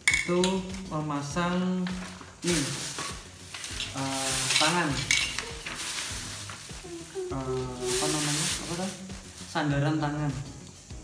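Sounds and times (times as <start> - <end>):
paper and plastic packaging rustling: 0.0 - 10.4.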